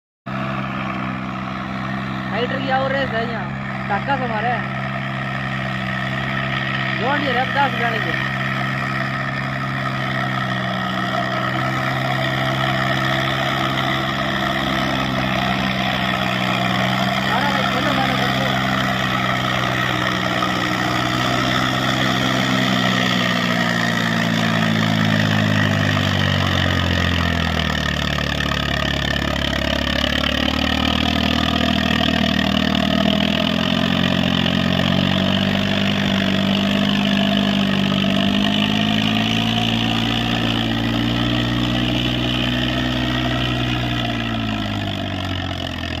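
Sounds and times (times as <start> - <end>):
tractor diesel engine under load: 0.2 - 46.0.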